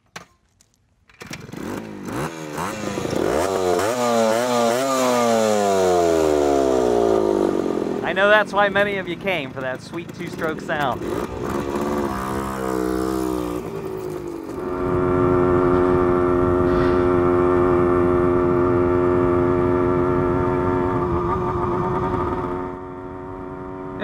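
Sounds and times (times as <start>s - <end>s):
two-stroke motorcycle engine running: 1.3s - 24.0s.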